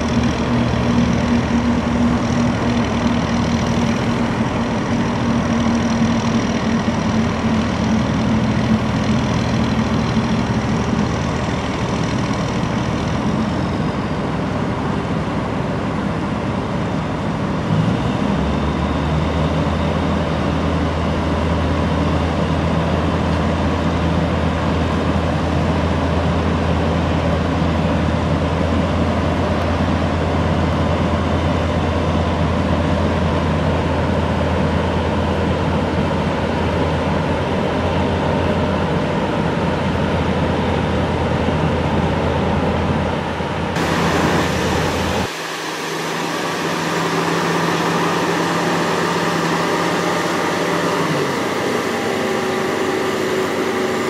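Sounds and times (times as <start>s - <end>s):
crane diesel engine running: 0.0s - 54.0s.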